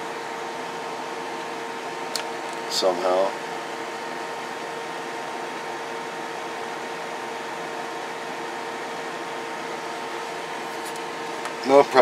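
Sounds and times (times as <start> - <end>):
background whir and hiss: 0.0 - 12.0
constant hum tone: 0.0 - 12.0.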